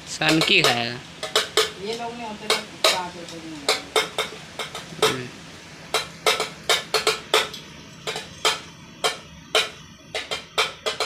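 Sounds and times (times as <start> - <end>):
metal spoon striking steel plate: 0.2 - 5.2, 5.9 - 11.0.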